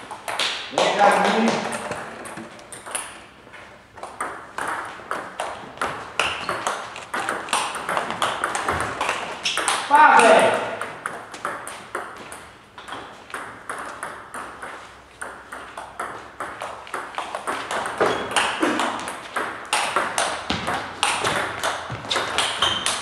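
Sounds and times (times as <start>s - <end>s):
table tennis ball clicking: 4.0s - 23.0s.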